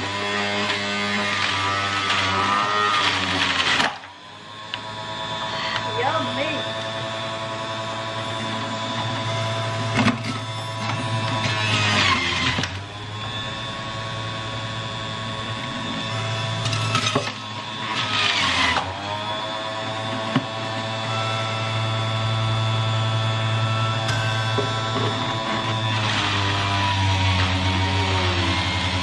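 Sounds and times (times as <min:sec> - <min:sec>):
juicer grinding produce: 0:00.0 - 0:29.0
juicer motor whine and hum: 0:00.0 - 0:29.0.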